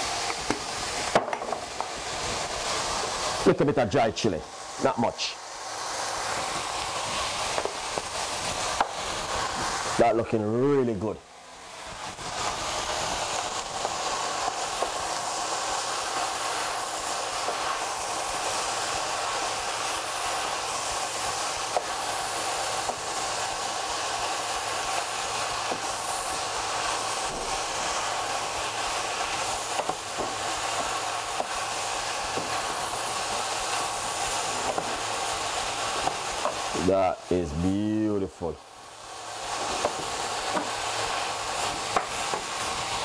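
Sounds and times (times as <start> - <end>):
vegetables sizzling in a pan: 0.0 - 43.0.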